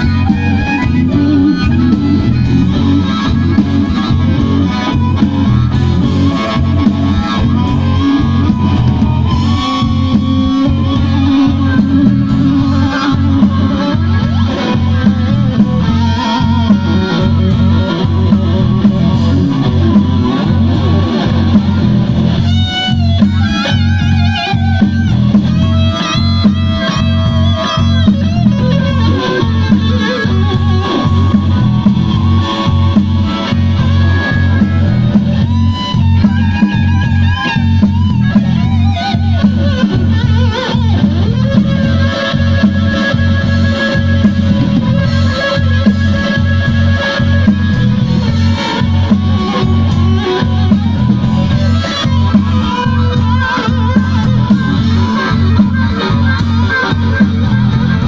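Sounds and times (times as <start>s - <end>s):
blues-rock band playing: 0.0s - 58.0s
electric guitar lead lines: 0.0s - 58.0s.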